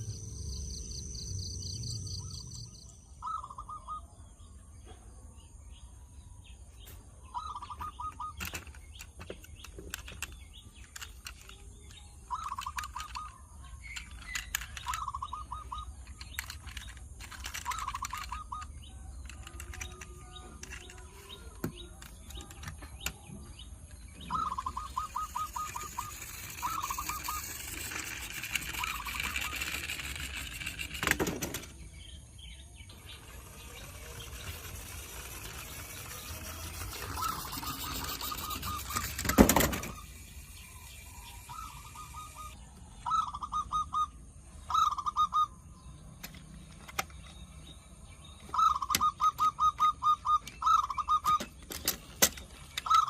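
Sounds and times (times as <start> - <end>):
bird trilling: 0.0 - 4.2, 7.3 - 31.2, 32.6 - 46.0, 48.3 - 52.0, 52.7 - 53.0.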